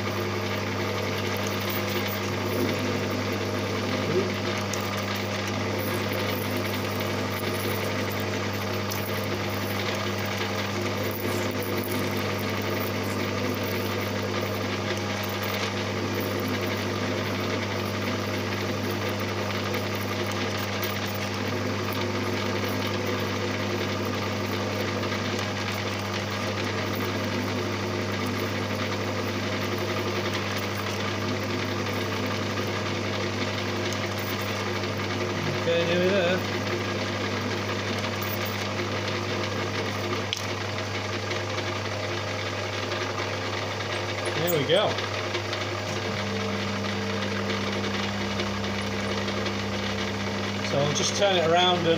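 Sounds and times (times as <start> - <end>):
lathe motor and gear hum: 0.0 - 51.9.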